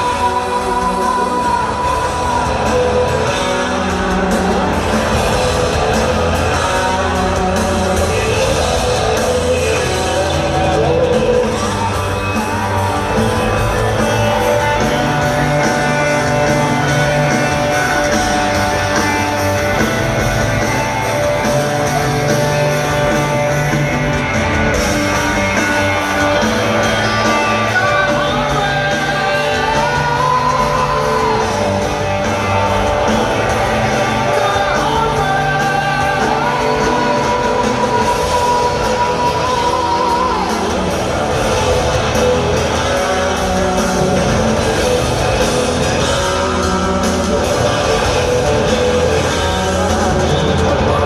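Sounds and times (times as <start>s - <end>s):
man singing: 0.0s - 51.0s
rock band playing live: 0.0s - 51.0s.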